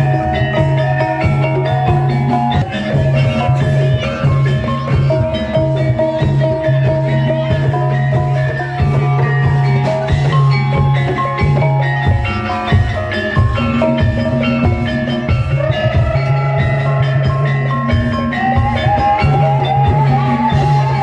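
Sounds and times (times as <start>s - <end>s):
drums: 0.0s - 21.0s
gamelan metal-keyed notes: 0.0s - 21.0s
wavering higher melody line: 0.0s - 21.0s.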